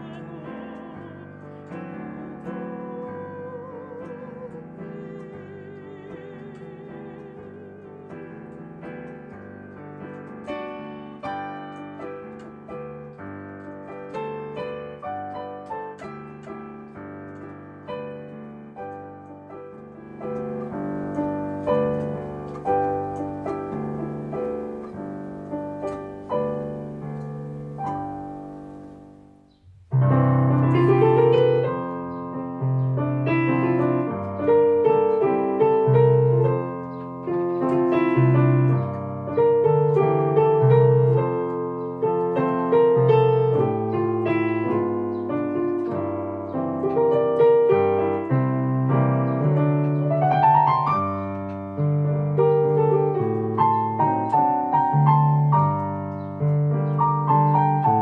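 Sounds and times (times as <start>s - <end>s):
piano bass notes under chords: 0.0s - 58.0s
slow digital piano passage: 0.0s - 58.0s.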